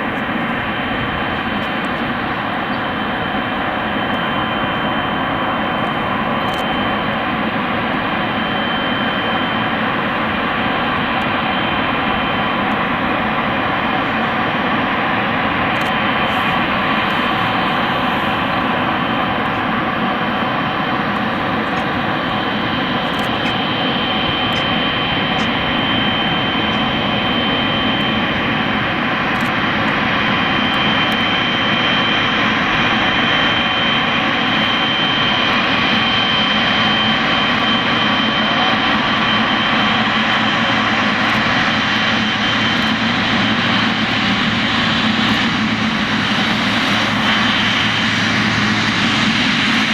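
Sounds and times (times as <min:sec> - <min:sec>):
jet engines running with whine: 0:00.0 - 0:49.9.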